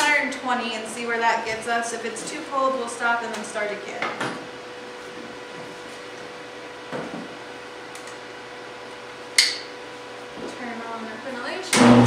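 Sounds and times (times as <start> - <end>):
steady hum with faint tone: 0.0 - 12.0.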